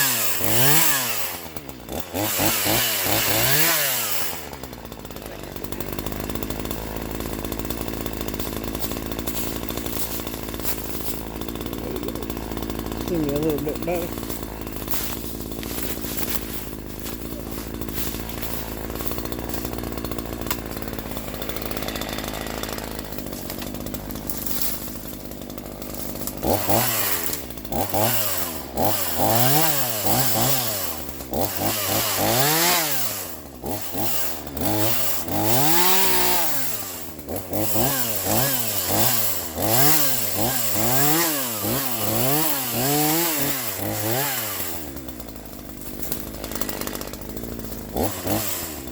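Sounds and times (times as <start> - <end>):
chainsaw running and revving: 0.0 - 48.9.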